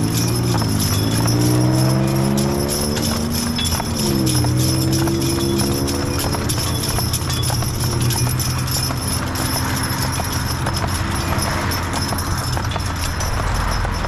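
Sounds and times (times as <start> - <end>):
harness chains jingling: 0.0 - 14.0
horse hooves clip-clopping on asphalt: 0.0 - 14.0
low hum of road traffic: 0.0 - 14.0.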